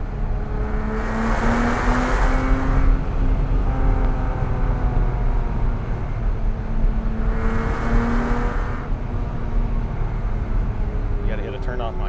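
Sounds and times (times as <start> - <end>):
car engine from inside cabin: 0.0 - 12.0
road rumble: 0.0 - 12.0.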